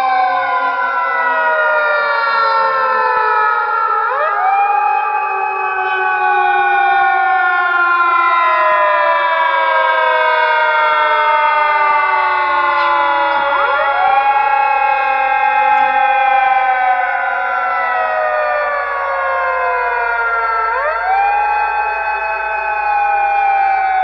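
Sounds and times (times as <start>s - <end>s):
siren wailing: 0.0s - 24.0s
second siren tone sweeping up: 3.0s - 24.0s.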